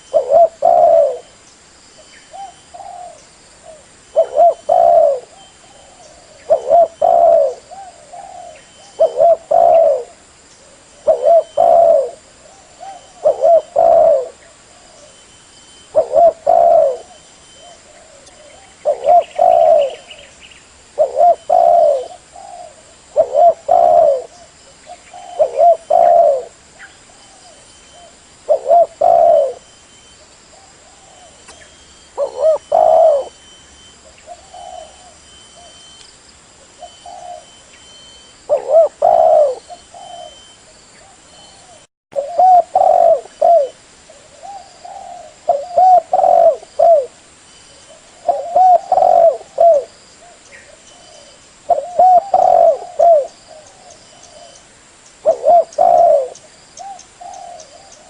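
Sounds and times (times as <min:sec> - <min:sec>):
dove cooing: 0:00.0 - 0:01.3, 0:02.3 - 0:15.2, 0:15.8 - 0:20.3, 0:20.9 - 0:36.0, 0:36.7 - 0:47.2, 0:47.8 - 0:54.6, 0:55.2 - 0:58.0.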